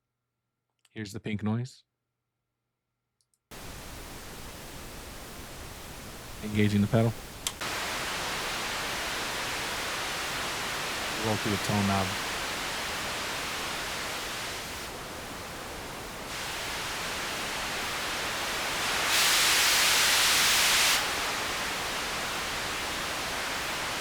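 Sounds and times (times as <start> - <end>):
overdriven noise hiss: 3.5 - 24.0.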